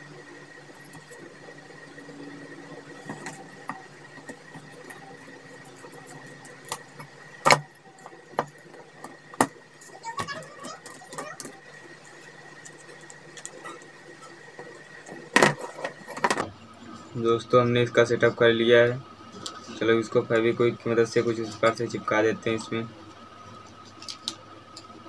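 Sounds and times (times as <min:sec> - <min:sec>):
electric fan hum: 0:00.0 - 0:25.0.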